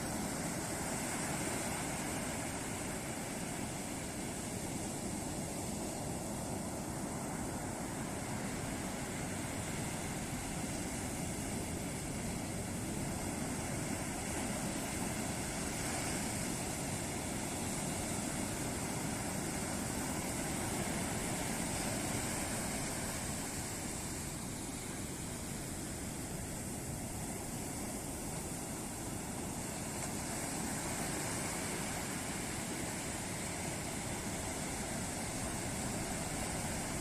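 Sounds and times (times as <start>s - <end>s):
ocean surf breaking on beach: 0.0s - 37.0s.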